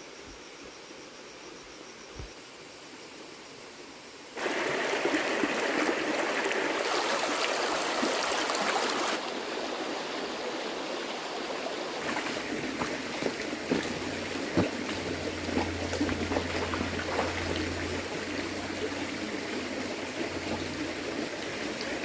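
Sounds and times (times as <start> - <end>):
running water splashing: 4.4 - 22.0.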